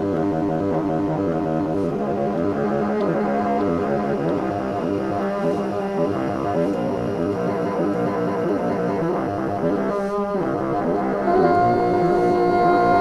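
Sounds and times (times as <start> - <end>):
bassoon with electronic effects: 0.0 - 13.0.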